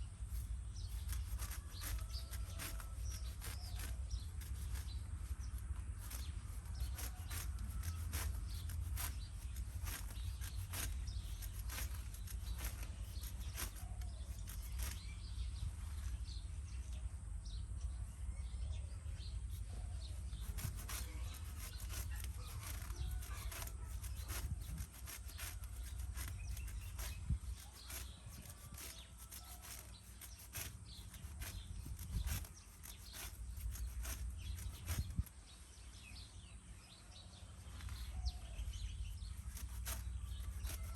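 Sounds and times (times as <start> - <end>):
grass slicing strokes: 0.0 - 16.4, 19.3 - 36.6, 37.6 - 40.9.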